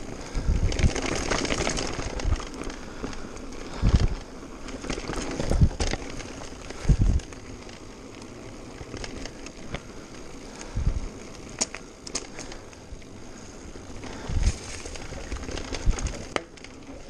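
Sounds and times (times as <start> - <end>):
bike rattling: 0.0 - 17.0
tyres crackling over stones: 0.0 - 17.0.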